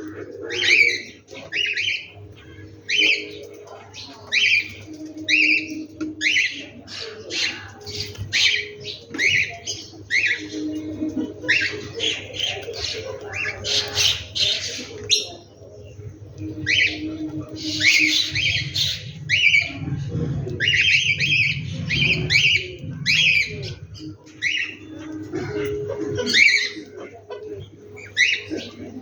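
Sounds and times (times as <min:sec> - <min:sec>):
chorus of birds calling: 0:00.0 - 0:29.0.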